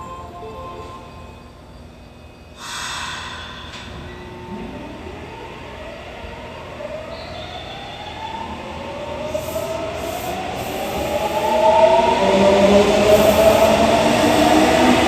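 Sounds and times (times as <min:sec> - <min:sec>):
train cars running noise: 0:00.0 - 0:15.0.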